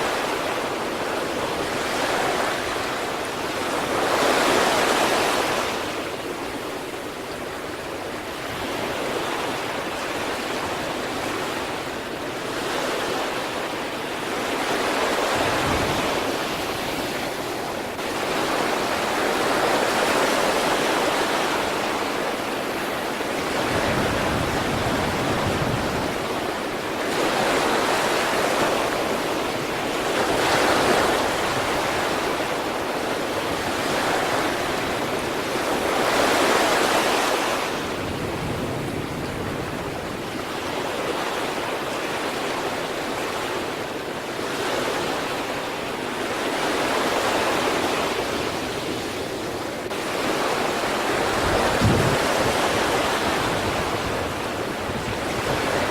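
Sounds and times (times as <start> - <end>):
sea waves breaking on shore: 0.0 - 55.9.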